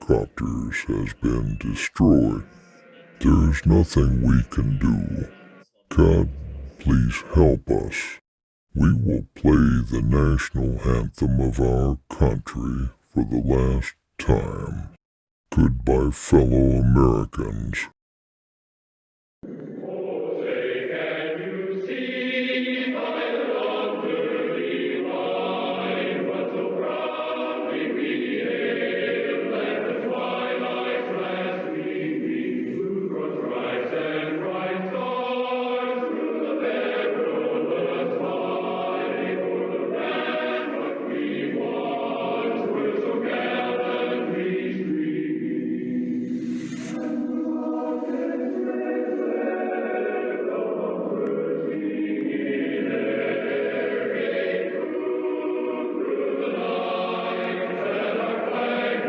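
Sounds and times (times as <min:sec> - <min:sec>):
choir singing an anthem: 0:00.0 - 0:07.8, 0:19.5 - 0:59.0.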